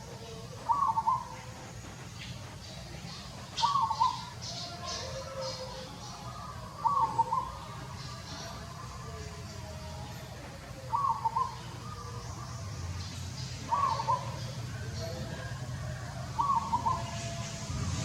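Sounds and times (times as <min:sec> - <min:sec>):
bird calling: 0:00.0 - 0:15.7, 0:16.4 - 0:17.8.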